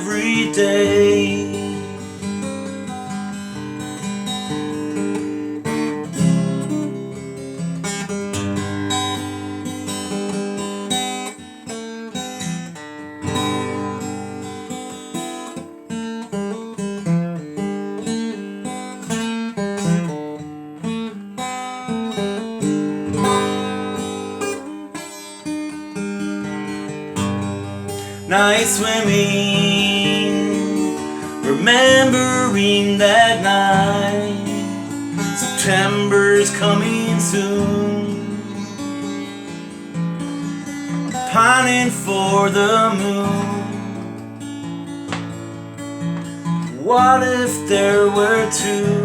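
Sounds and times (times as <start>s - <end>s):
acoustic guitar strummed and picked: 0.0s - 49.0s.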